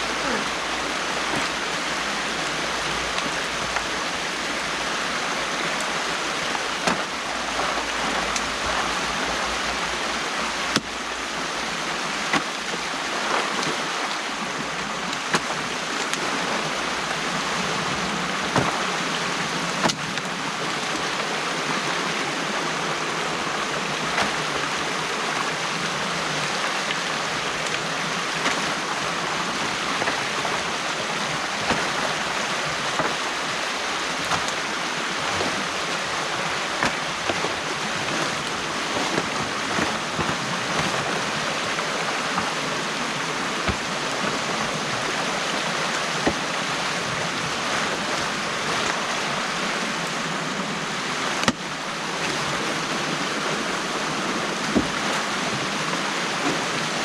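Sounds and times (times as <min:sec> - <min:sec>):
sharp knocks or splashes: 0:00.0 - 0:21.2, 0:23.8 - 0:49.8, 0:51.2 - 0:57.0
stream water rushing: 0:00.0 - 0:57.0.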